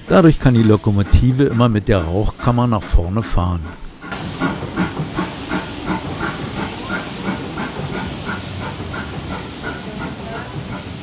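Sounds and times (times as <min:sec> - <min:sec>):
steady locomotive beat: 0:00.0 - 0:11.0
steam locomotive hissing: 0:00.0 - 0:11.0.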